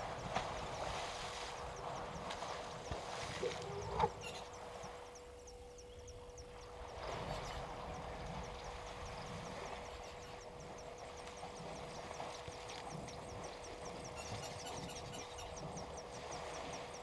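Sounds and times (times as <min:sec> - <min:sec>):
water sloshing and splashing: 0:00.0 - 0:04.8, 0:06.8 - 0:17.0
faint steady hum: 0:00.0 - 0:17.0.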